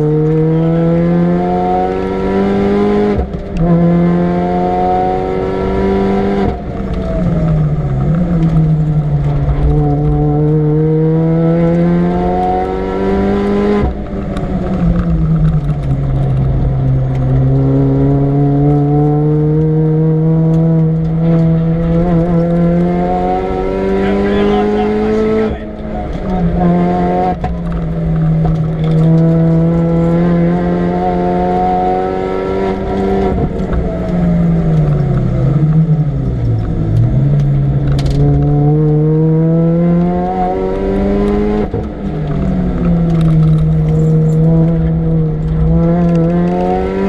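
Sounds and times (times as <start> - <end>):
car engine at full throttle: 0.0 - 47.0.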